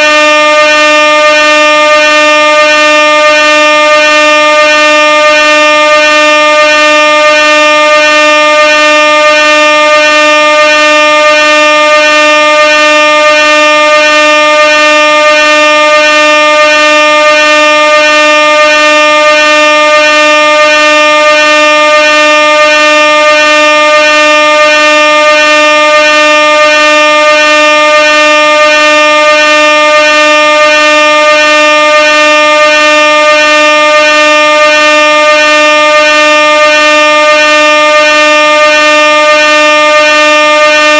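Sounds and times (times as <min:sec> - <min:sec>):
air horn steady tone: 0:00.0 - 0:40.9.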